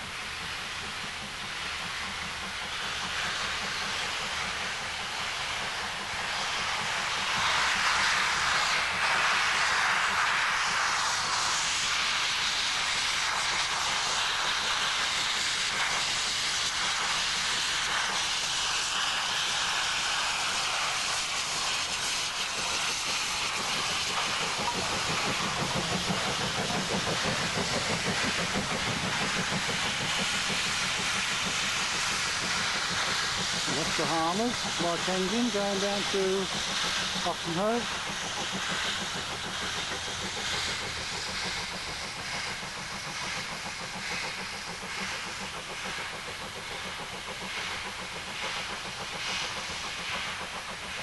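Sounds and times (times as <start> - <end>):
steam locomotive hissing: 0.0 - 51.0.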